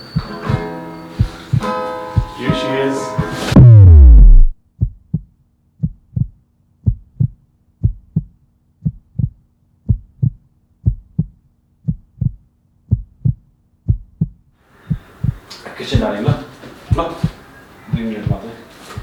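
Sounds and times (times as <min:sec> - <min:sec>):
heartbeat thumps: 0:00.2 - 0:02.4, 0:03.2 - 0:18.4.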